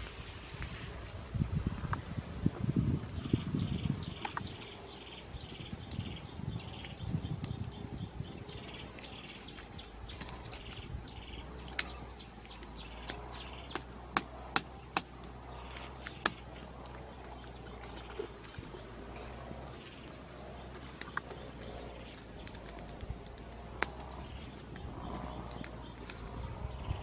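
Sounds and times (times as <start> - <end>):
campfire crackling and popping: 1.6 - 27.0.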